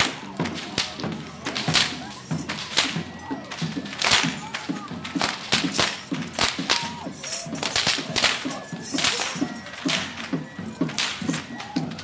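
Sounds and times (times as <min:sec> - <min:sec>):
whip cracks: 0:00.0 - 0:11.8
music: 0:00.0 - 0:12.0.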